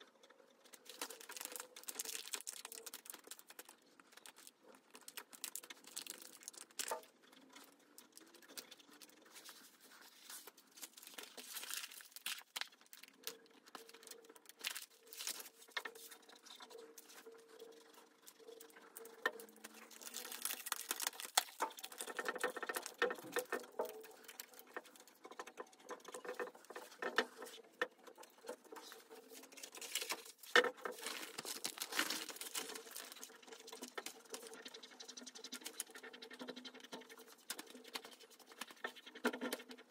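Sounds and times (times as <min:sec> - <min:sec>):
plastic film rubbing and crinkling: 0:00.6 - 0:39.9.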